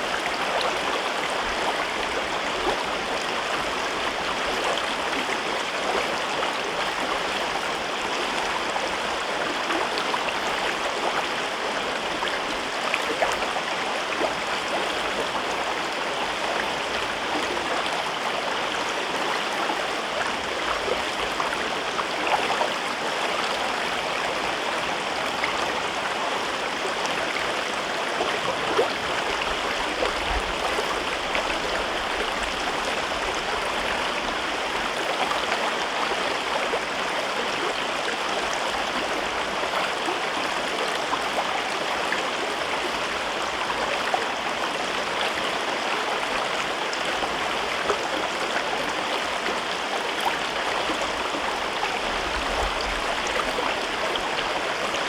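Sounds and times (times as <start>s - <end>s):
river babbling: 0.0s - 55.0s.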